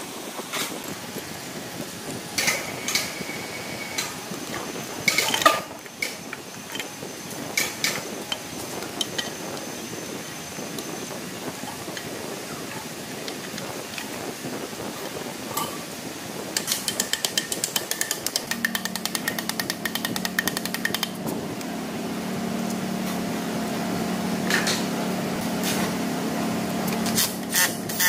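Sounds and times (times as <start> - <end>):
low machine hum: 0.0 - 17.2, 18.3 - 28.0.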